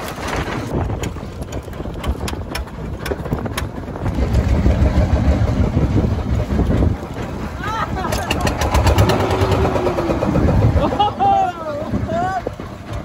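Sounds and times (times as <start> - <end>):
water splashing along hull: 0.0 - 13.0
boat engine idling: 0.7 - 13.0.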